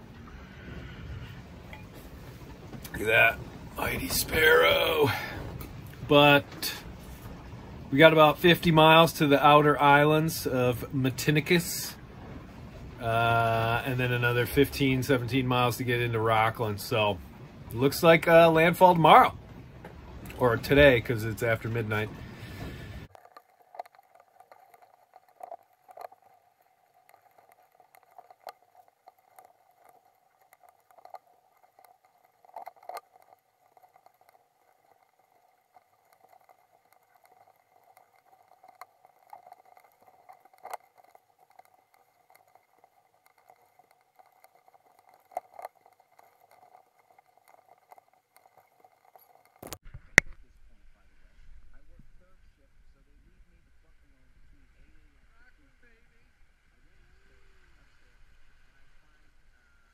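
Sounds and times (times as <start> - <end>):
faint hum: 0.0 - 59.9.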